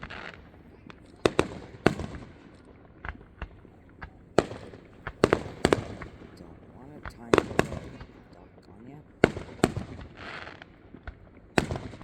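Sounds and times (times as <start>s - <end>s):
fireworks bangs with echo: 0.0s - 12.0s.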